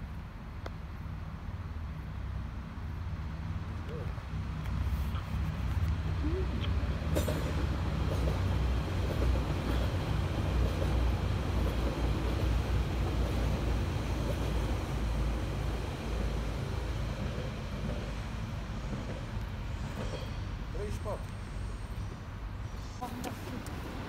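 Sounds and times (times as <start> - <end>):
train wheels rumbling on track: 1.9 - 24.0.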